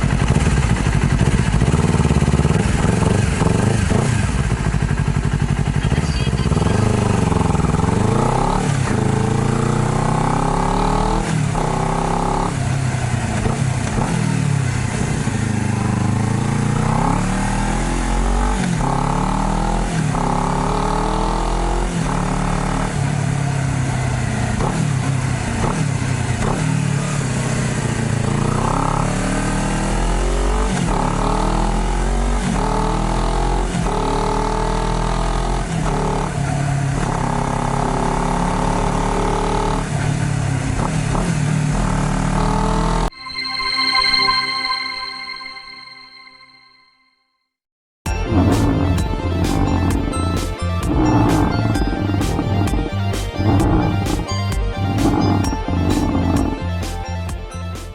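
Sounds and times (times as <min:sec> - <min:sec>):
motorcycle engine accelerating: 0:00.0 - 0:43.1, 0:48.1 - 0:57.9.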